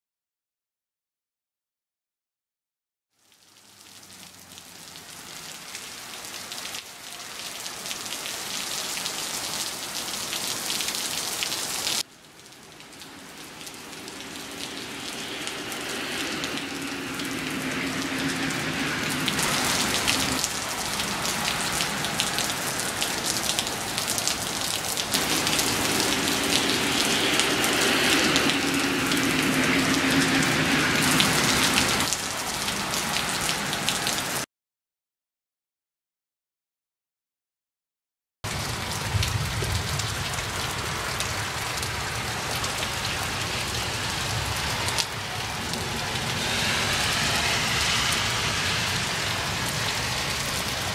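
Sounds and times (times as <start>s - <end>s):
heavy rain on pavement: 3.1s - 34.5s, 38.4s - 50.9s.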